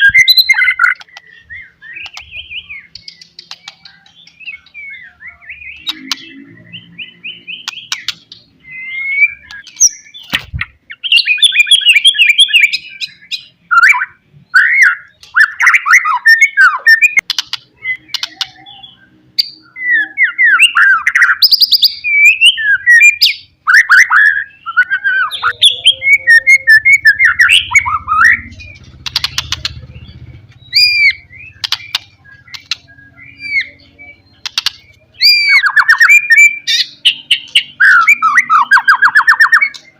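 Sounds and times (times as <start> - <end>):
songbird singing whistled phrases: 0.0 - 10.3, 10.9 - 39.9.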